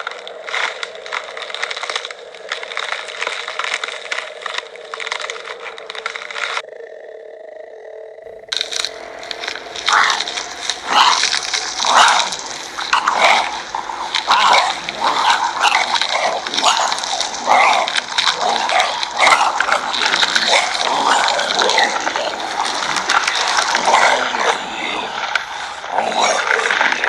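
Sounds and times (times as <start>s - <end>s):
zombie growls and cries: 0.0s - 27.0s.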